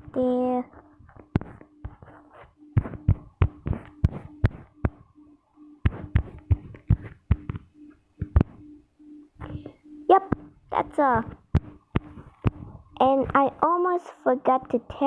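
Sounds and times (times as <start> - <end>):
taps on touchscreen: 0.0 - 13.6
pulsing low hum: 0.0 - 13.8.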